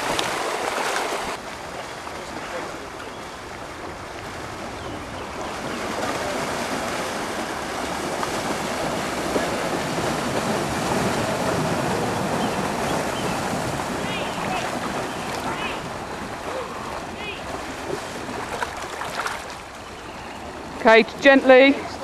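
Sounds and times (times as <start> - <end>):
floodwater splashing and churning: 0.0 - 22.0.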